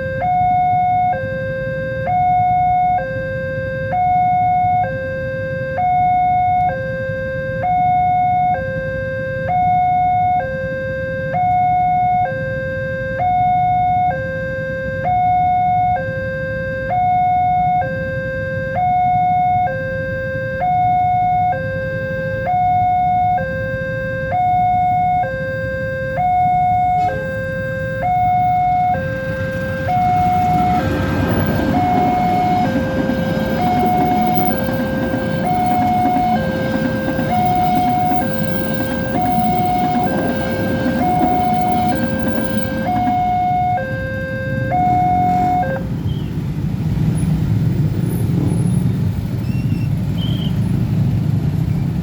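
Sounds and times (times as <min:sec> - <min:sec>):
level-crossing two-tone alarm: 0:00.0 - 0:45.9.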